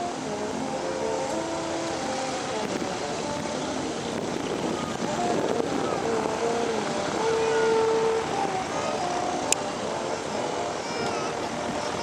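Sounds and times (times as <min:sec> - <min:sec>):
faint crowd voices: 0:00.0 - 0:12.0.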